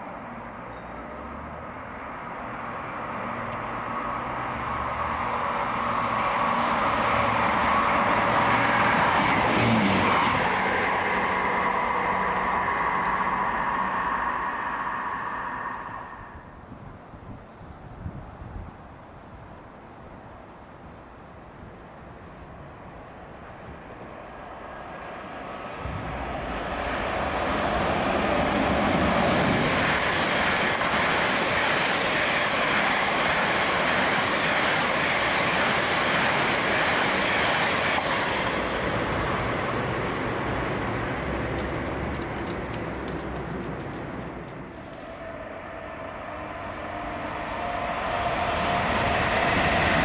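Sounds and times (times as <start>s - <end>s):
train wheels rushing on rail: 0.0s - 16.7s, 23.6s - 50.0s.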